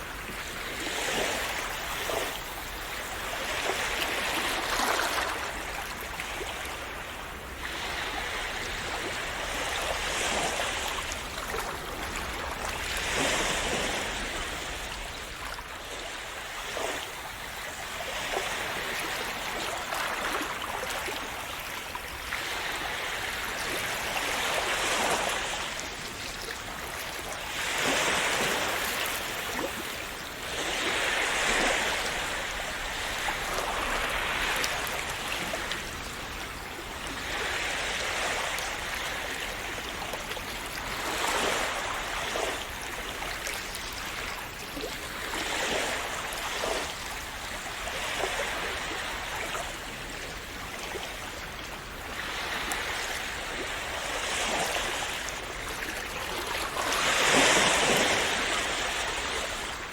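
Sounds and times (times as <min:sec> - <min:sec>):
sea waves on shore: 0:00.0 - 0:59.9.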